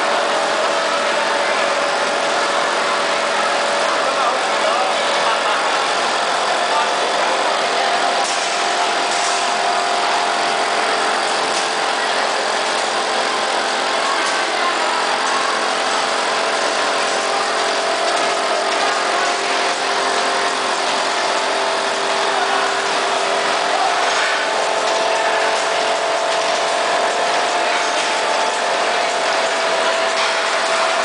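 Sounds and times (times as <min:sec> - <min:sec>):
conveyor belts humming: 0:00.0 - 0:31.0.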